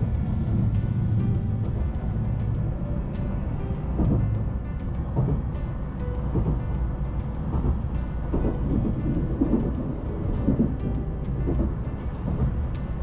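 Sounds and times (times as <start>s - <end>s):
train rumble inside cabin: 0.0s - 13.0s.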